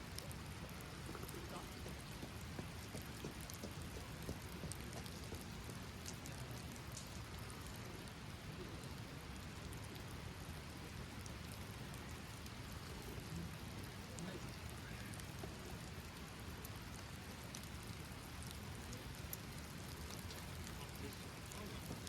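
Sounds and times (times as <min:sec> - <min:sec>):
raindrops ticking on surfaces: 0:00.0 - 0:22.0
steady rain falling: 0:00.0 - 0:22.0.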